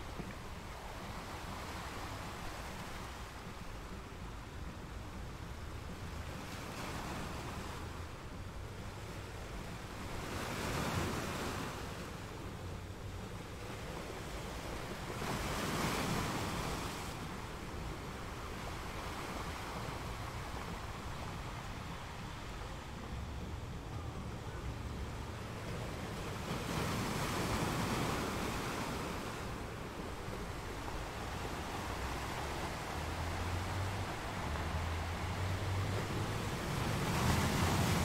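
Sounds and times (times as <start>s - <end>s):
ocean waves washing: 0.0s - 38.0s.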